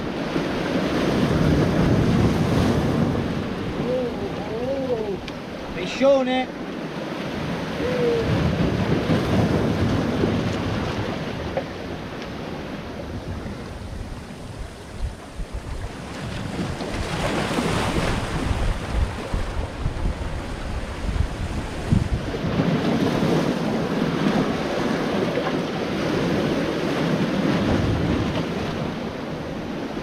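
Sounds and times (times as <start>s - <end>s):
sea waves breaking on rocks: 0.0s - 30.0s
wind buffeting microphone: 0.0s - 30.0s.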